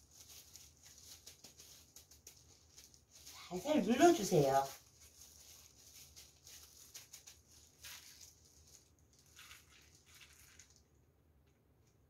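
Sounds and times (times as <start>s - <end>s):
plastic gloves rustling: 0.0s - 11.2s.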